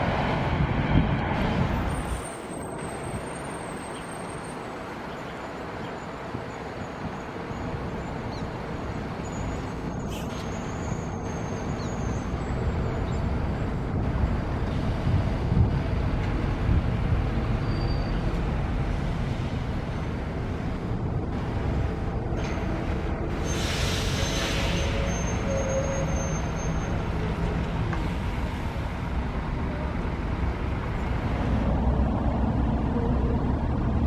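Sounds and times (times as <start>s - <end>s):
diesel bus engine rumble: 0.0s - 34.0s.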